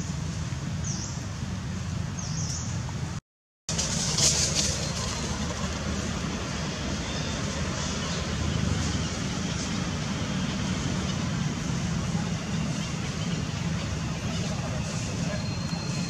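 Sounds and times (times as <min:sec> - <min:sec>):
low engine rumble: 0:00.0 - 0:16.0
outdoor background noise: 0:00.0 - 0:16.0.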